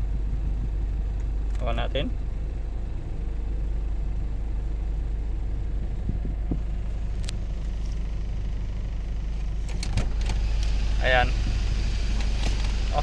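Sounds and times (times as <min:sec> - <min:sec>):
air-conditioning compressor noise: 0:00.0 - 0:13.0
car engine idling: 0:00.0 - 0:13.0.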